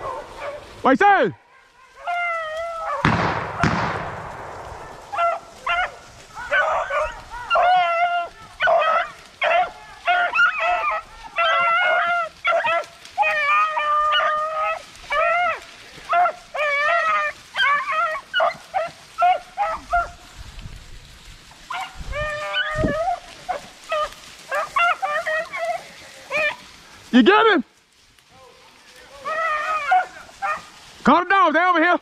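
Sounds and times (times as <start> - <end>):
hounds baying: 0.0 - 4.0, 4.6 - 20.4, 21.5 - 26.8, 28.6 - 31.0.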